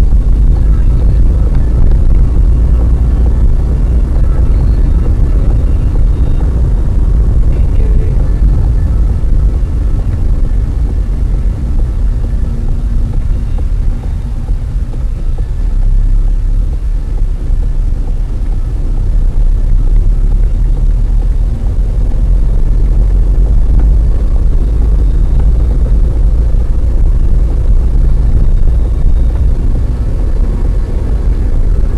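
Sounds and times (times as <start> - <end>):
car driving at highway speed: 0.0 - 31.9
wind noise: 0.0 - 31.9.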